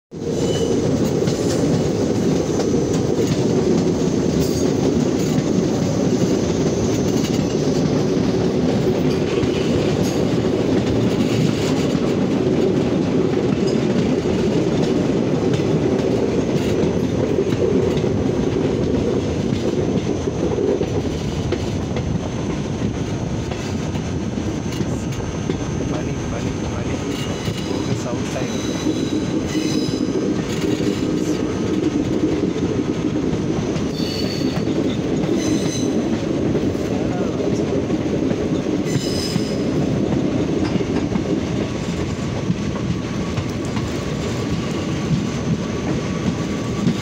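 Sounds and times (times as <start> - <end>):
train wheels rumbling on rails: 0.1 - 47.0.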